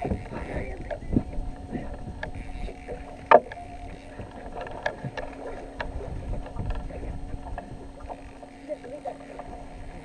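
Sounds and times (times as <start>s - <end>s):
wind on microphone: 0.0s - 8.6s
steady low hum: 0.0s - 10.0s.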